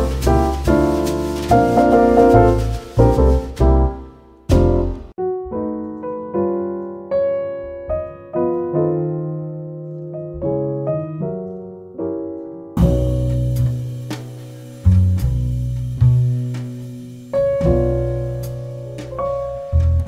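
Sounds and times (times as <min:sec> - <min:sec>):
slow piano notes and chords: 0:00.0 - 0:20.0.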